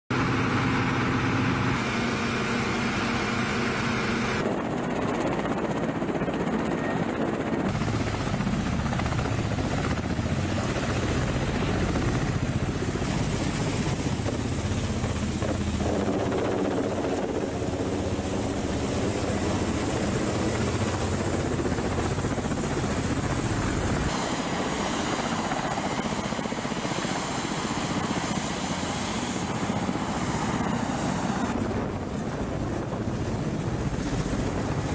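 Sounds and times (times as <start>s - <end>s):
helicopter rotors: 0.1s - 34.9s
turbine engine whine: 0.1s - 34.9s.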